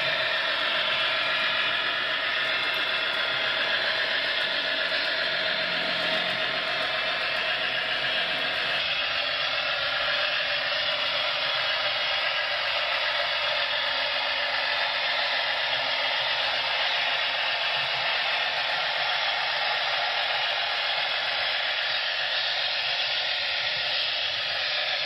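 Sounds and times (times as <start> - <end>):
model trains whirring on track: 0.0 - 25.0.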